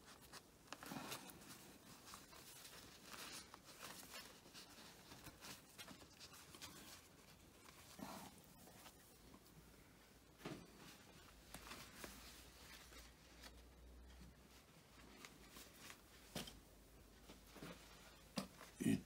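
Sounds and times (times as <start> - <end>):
paper napkins rustling: 0.0 - 18.7.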